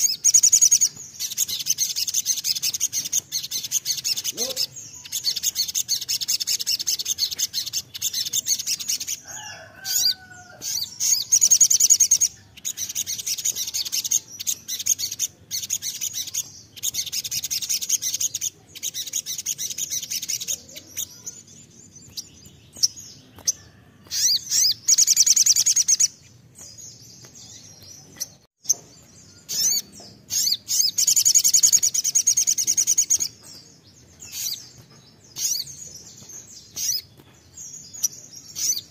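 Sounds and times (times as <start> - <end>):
sunbird trilling song: 0.0 - 38.9.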